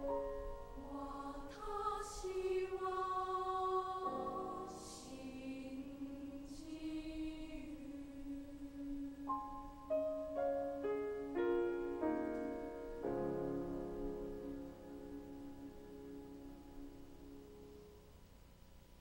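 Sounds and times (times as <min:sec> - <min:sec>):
choir singing softly: 0:00.0 - 0:19.0
piano: 0:00.0 - 0:19.0.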